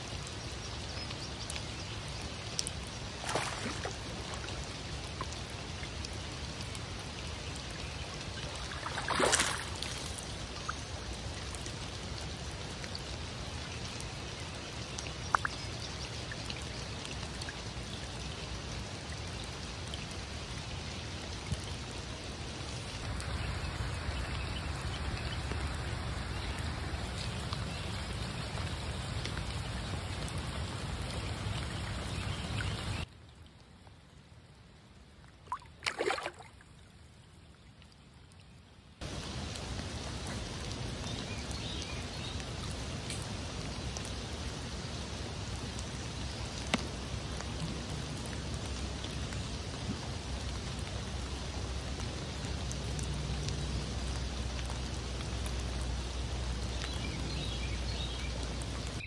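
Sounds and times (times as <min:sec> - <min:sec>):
rain falling on river: 0:00.0 - 0:59.0.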